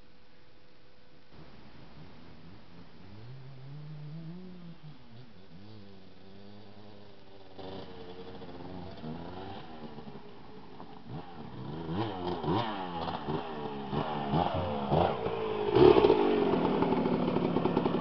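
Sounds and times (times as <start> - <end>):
dirt bike engine revving: 1.3 - 18.0.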